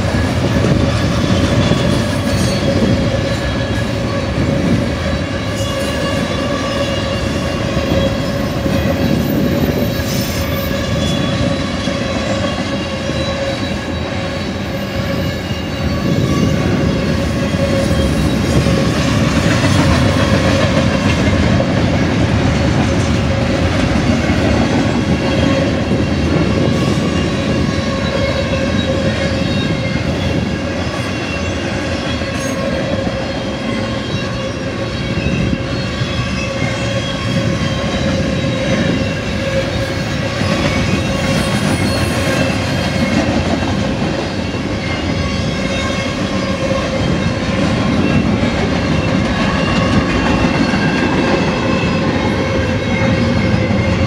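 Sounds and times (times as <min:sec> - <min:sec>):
train wheels rumbling clickety-clack: 0:00.0 - 0:54.0.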